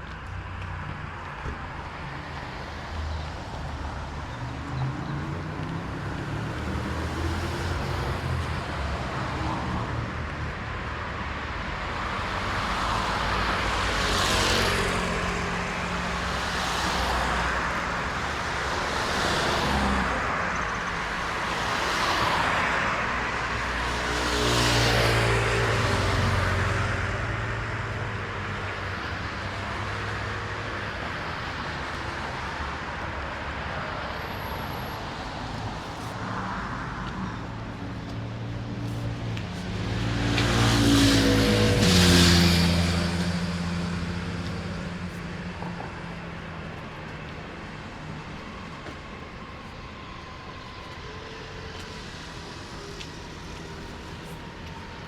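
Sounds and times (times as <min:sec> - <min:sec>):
background traffic: 0:00.0 - 0:55.0.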